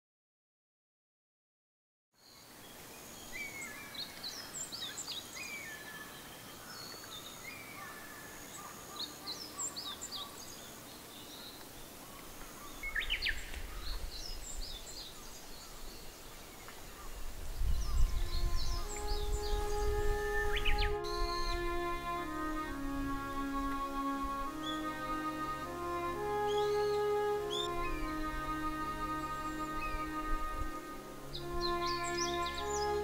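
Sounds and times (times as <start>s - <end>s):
wild birds chirping and singing: 2.2s - 33.0s.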